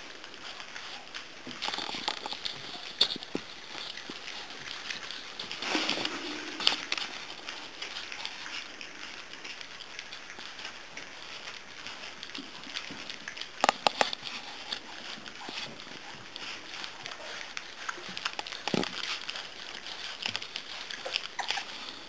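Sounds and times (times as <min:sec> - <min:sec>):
puppies eating: 0:00.0 - 0:22.0.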